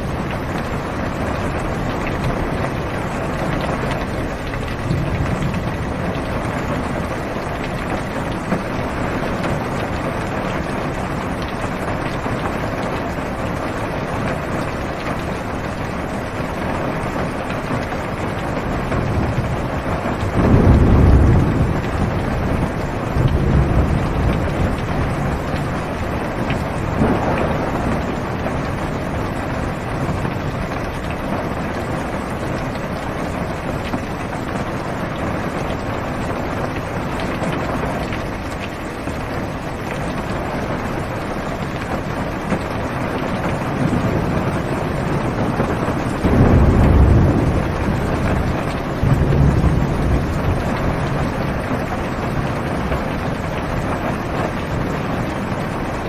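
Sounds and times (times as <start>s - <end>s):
rain drumming on car roof: 0.0s - 56.0s
thunder rumbling: 0.0s - 56.0s.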